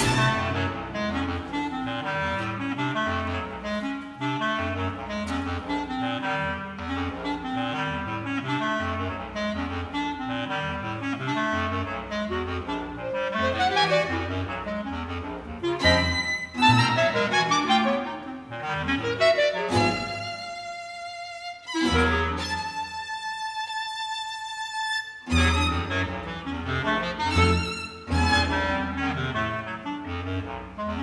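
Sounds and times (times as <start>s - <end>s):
clarinet and saxophone: 0.0s - 31.0s
jazz chamber ensemble music: 0.0s - 31.0s.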